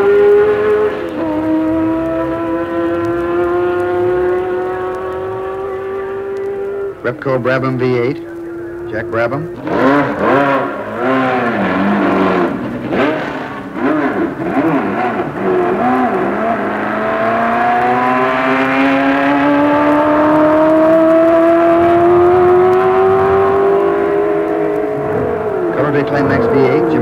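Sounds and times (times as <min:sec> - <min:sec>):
racing engine throttle blips: 0:00.0 - 0:27.0.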